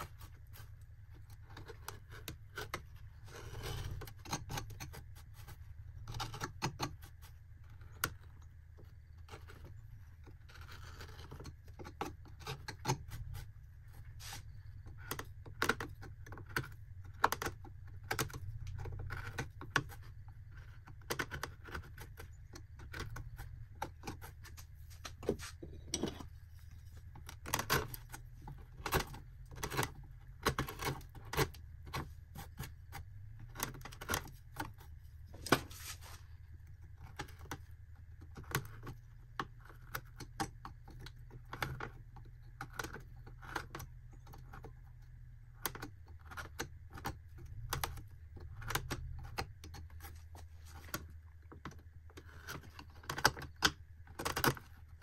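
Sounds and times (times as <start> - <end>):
knife carving bark: 0.0 - 55.0.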